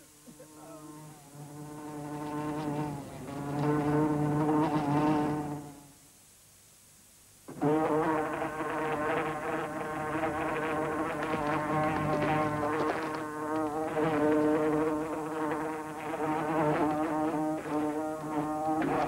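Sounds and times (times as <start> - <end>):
fly buzzing: 0.0 - 5.9, 7.5 - 19.0.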